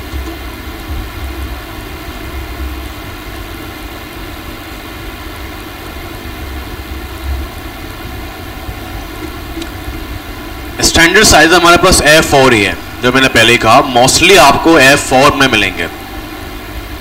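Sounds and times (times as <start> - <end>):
machinery drone with electrical hum: 0.0 - 17.0.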